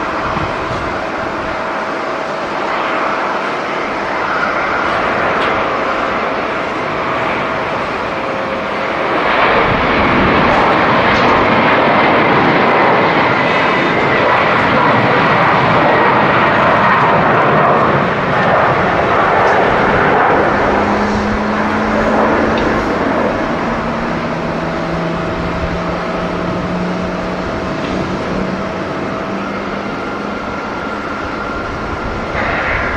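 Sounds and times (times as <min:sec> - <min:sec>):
jet engines rushing: 0:00.0 - 0:32.9.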